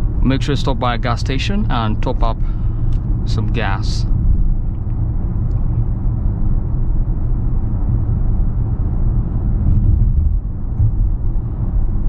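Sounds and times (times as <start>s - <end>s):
car cabin engine rumble: 0.0s - 12.0s.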